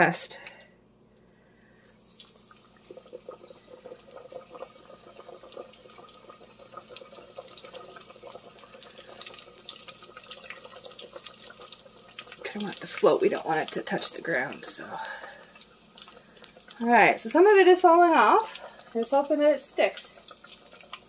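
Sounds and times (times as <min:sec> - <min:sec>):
chicken deep-frying in oil: 0:01.9 - 0:21.0.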